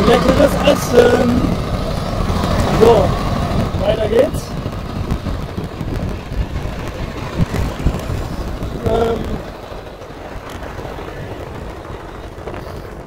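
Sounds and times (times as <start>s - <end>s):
passing road traffic: 0.0s - 13.0s
wind rumble: 0.0s - 13.0s.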